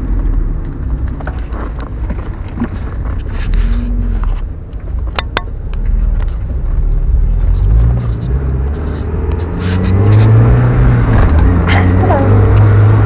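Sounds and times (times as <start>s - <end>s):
car engine accelerating: 0.0s - 13.0s
road and wind rumble: 0.0s - 13.0s.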